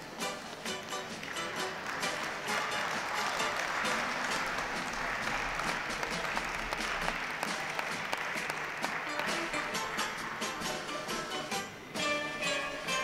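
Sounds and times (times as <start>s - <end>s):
background music: 0.0s - 13.0s
audience applauding: 0.5s - 11.3s.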